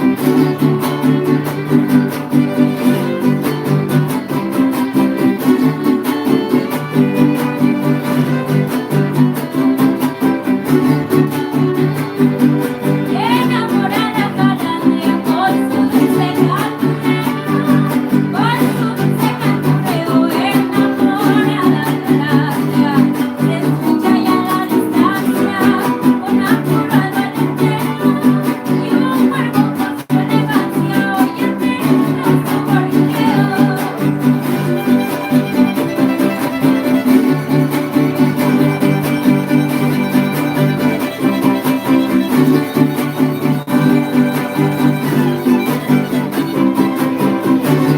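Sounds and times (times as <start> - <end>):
strummed guitar chords: 0.0 - 47.9
violin melody: 0.0 - 47.9.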